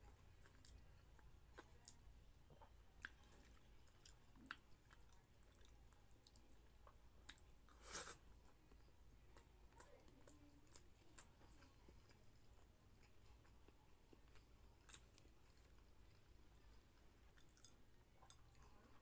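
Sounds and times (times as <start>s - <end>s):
faint chewing: 0.0s - 19.0s.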